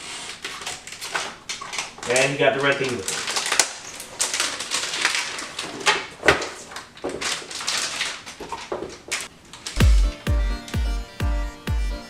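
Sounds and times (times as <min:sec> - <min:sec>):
packaging rustling and scraping: 0:00.0 - 0:10.8.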